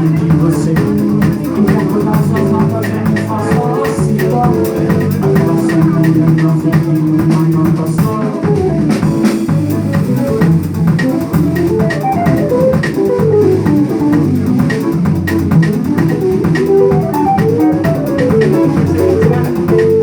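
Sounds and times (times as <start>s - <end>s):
bass guitar: 0.0s - 20.0s
drum kit beat: 0.0s - 20.0s.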